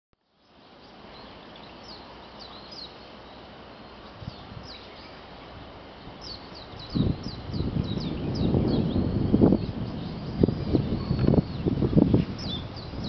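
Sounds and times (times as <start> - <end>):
outdoor hiss: 0.2 - 13.0
small birds chirping: 0.2 - 13.0.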